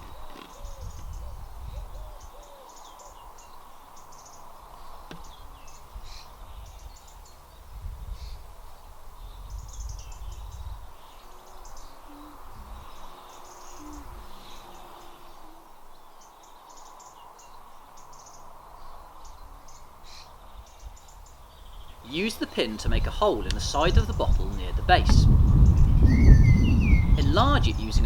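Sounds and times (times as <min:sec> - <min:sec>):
short low bird calls: 0:00.0 - 0:22.5
birds chirping and singing: 0:00.0 - 0:28.0.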